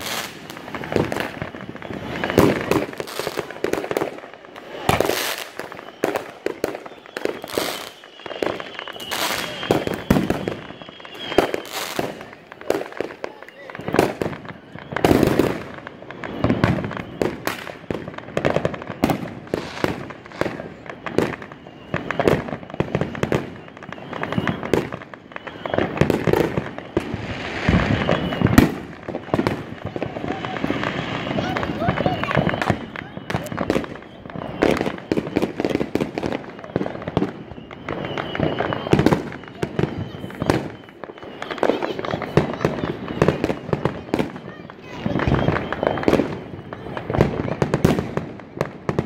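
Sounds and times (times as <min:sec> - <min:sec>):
thin high whistle: 0:00.0 - 0:47.6
fireworks bangs and crackling: 0:00.0 - 0:49.0.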